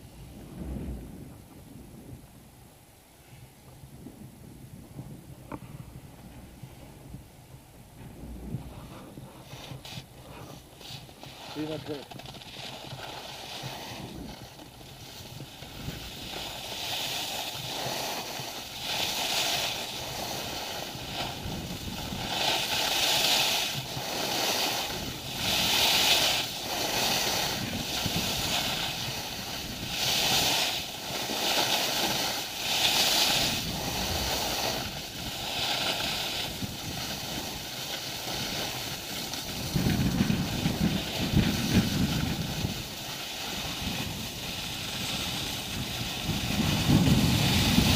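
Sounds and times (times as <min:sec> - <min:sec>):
wind on microphone: 0:00.0 - 0:47.9
skis scraping over snow: 0:08.5 - 0:47.9.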